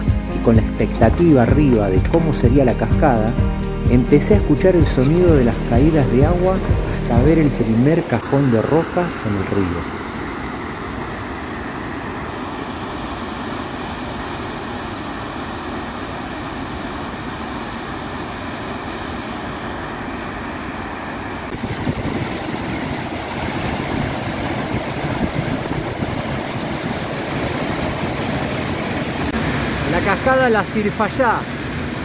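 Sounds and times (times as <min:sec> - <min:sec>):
river rapids roaring: 0:04.0 - 0:32.0.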